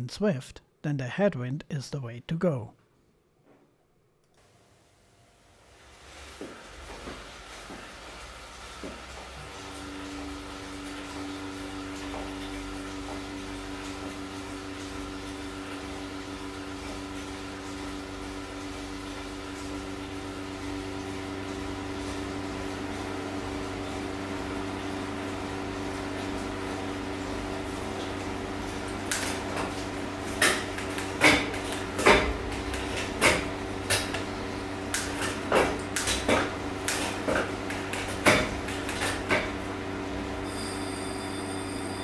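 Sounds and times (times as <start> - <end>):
fan rushing air and humming: 5.5 - 42.0.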